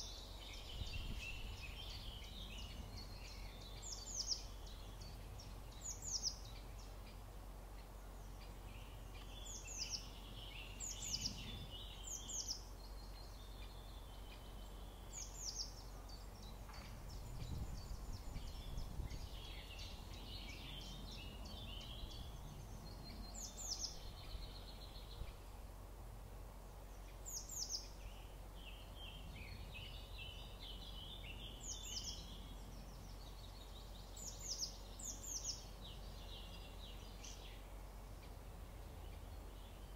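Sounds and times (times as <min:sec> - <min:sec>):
birds twittering: 0:00.0 - 0:25.7, 0:26.7 - 0:39.9.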